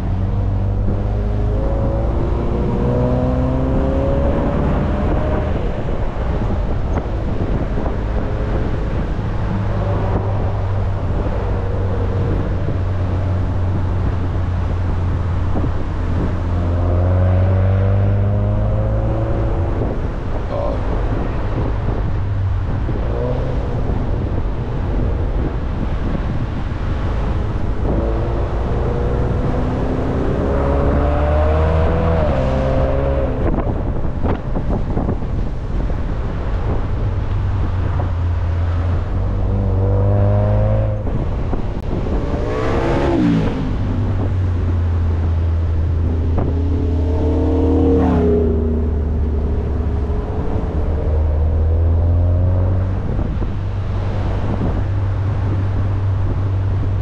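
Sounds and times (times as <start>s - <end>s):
car engine accelerating: 0.0s - 57.0s
low road rumble: 0.0s - 57.0s.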